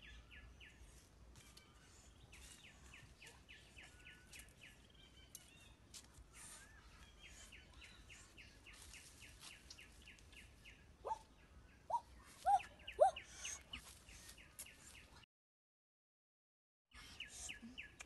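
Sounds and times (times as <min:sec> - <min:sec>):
faint outdoor background noise: 0:00.0 - 0:15.2, 0:16.9 - 0:18.0.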